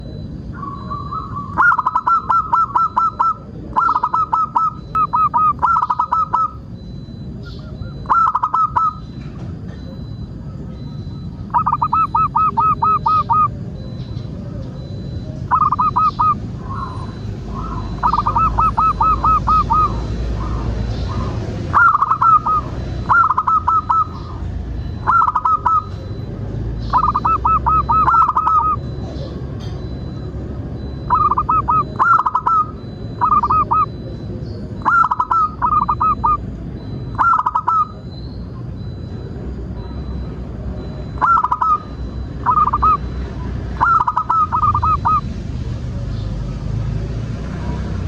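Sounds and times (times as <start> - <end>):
dove cooing: 0.0 - 45.3.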